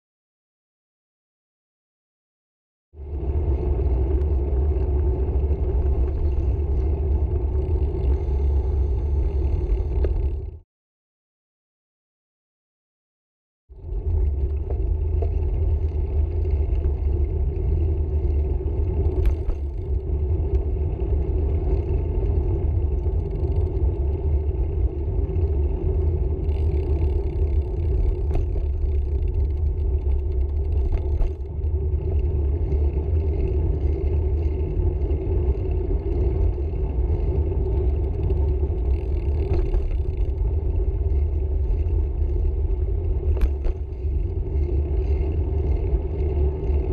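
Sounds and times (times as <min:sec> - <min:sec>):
road and wind rumble: 0:03.0 - 0:10.6, 0:13.7 - 0:46.9.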